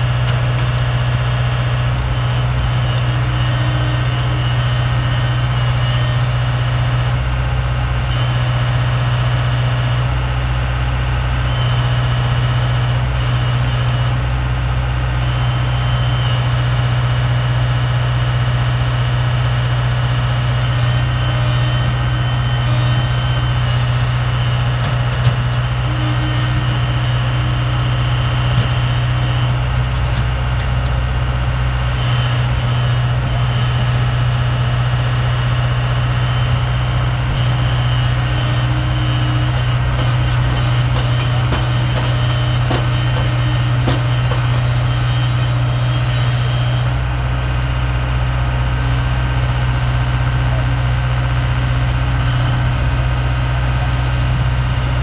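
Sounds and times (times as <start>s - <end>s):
excavator diesel engines droning: 0.0s - 55.0s.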